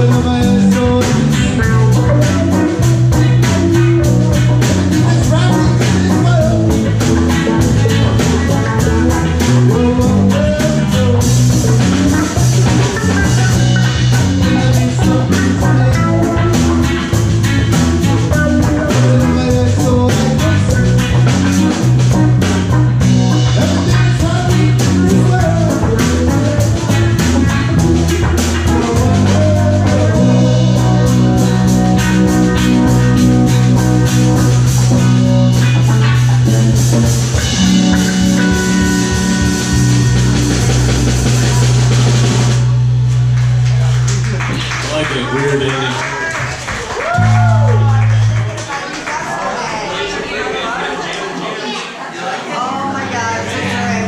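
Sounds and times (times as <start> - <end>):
drum kit steady beat: 0.0 - 44.8
electric guitars: 0.0 - 49.0
bass guitar: 0.0 - 49.6, 52.5 - 54.0.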